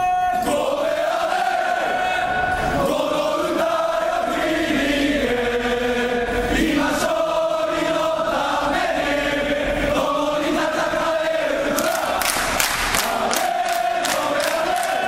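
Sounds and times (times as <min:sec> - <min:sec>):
crowd chanting in unison: 0:00.4 - 0:15.0.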